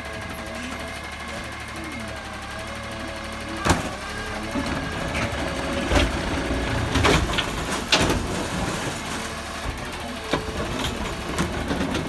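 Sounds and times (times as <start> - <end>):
garbage truck engine running: 0.0 - 12.0.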